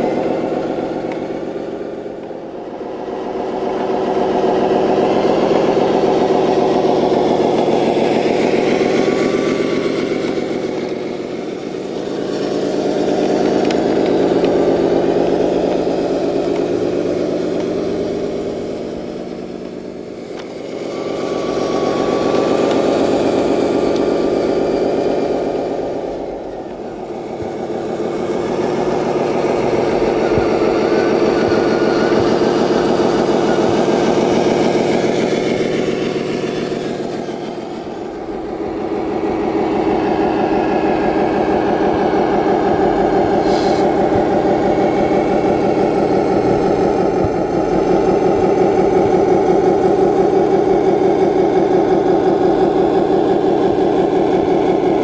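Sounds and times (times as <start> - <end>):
simulated diesel truck engine: 0.0 - 55.0.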